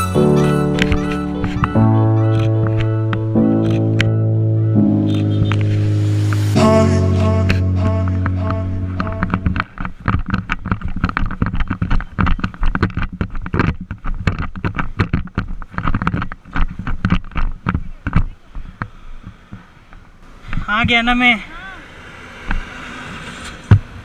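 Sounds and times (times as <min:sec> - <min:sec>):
motorcycle engine rumble: 0:00.0 - 0:24.0.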